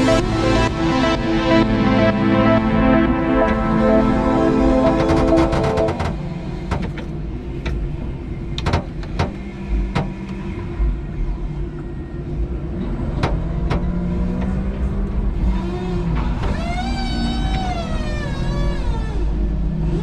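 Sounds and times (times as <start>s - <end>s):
forklift hum and rumble: 0.0s - 20.0s.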